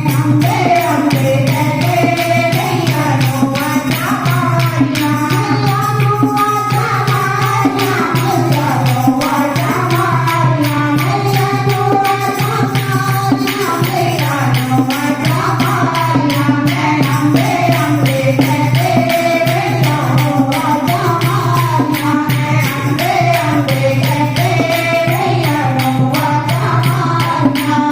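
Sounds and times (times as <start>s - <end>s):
fast hand percussion beat: 0.0s - 27.9s.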